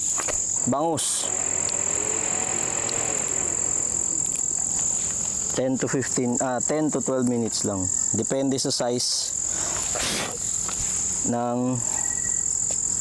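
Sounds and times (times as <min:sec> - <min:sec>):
background hiss: 0:00.0 - 0:13.0
crickets chirping: 0:00.0 - 0:13.0.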